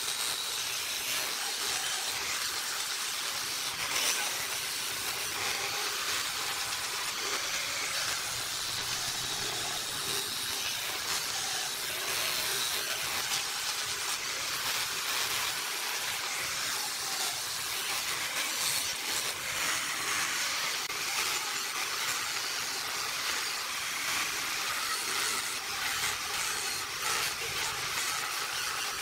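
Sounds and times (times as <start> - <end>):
angle grinder sanding wood: 0.0 - 29.0.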